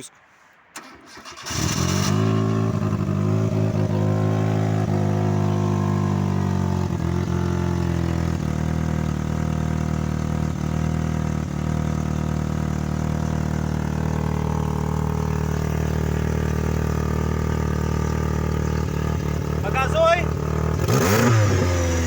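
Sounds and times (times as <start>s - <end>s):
petrol engine idling without silencer: 0.8s - 22.0s.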